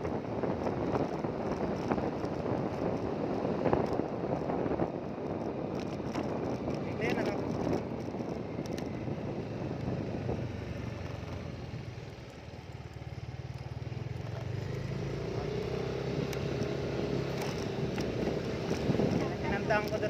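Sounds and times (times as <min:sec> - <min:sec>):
wind on microphone: 0:00.0 - 0:12.4, 0:13.5 - 0:20.0.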